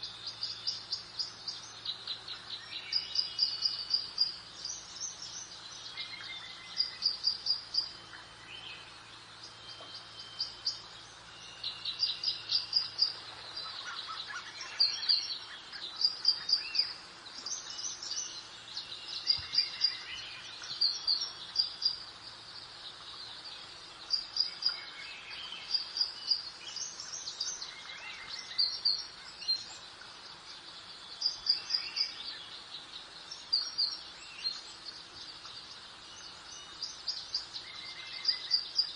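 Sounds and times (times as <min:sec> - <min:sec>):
faint steady hiss: 0:00.0 - 0:38.9
songbirds chirping: 0:00.0 - 0:38.9.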